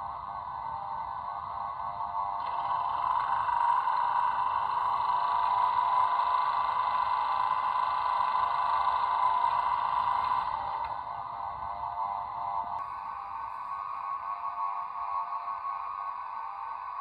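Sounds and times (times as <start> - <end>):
electric locomotive hum from speaker: 0.0 - 17.0.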